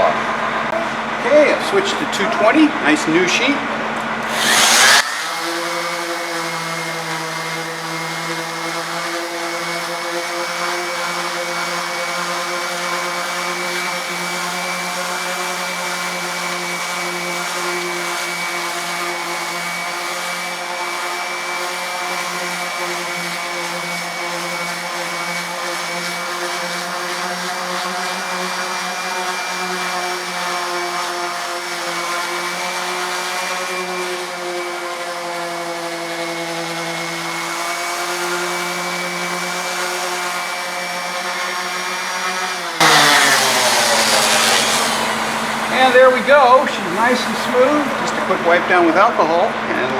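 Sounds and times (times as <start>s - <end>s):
electric sander motor whine: 0.0s - 49.9s.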